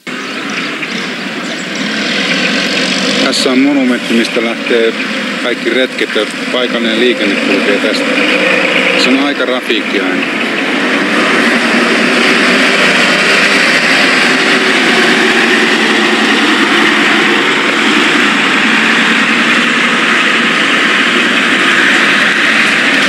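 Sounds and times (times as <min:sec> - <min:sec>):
bus passing: 0:00.0 - 0:23.0
road traffic: 0:00.0 - 0:23.0.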